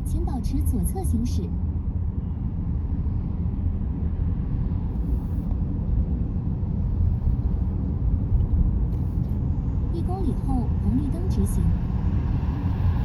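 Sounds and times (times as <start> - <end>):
car driving road noise: 0.0 - 13.0.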